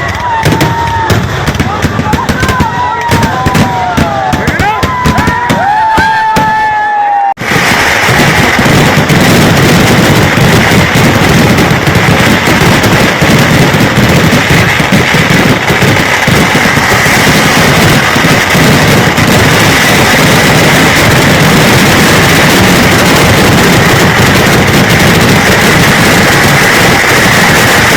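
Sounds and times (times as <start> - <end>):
firecrackers barrage: 0.0 - 27.9.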